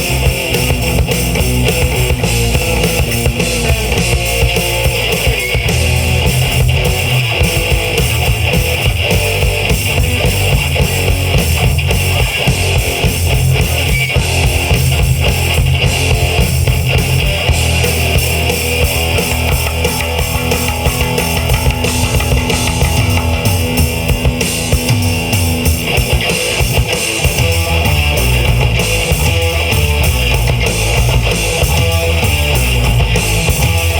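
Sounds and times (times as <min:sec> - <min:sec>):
bass guitar: 0:00.0 - 0:33.9
drum kit: 0:00.0 - 0:33.9
electric guitars: 0:00.0 - 0:33.9.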